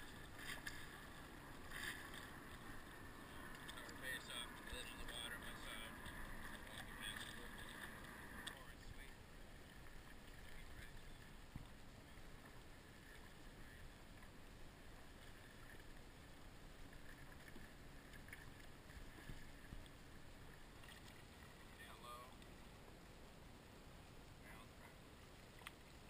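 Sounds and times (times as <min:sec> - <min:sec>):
soft splashes: 0:00.0 - 0:26.0
water lapping: 0:00.0 - 0:26.0.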